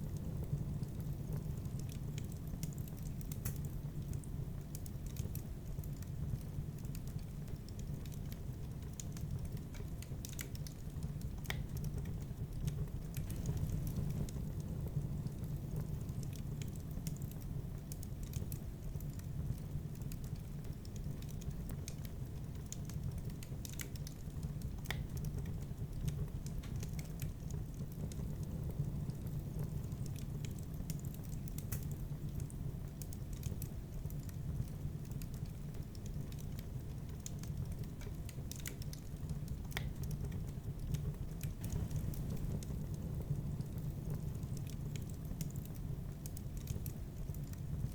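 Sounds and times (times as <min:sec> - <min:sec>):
low fire rumble: 0:00.0 - 0:47.9
wood fire crackling: 0:00.0 - 0:47.9.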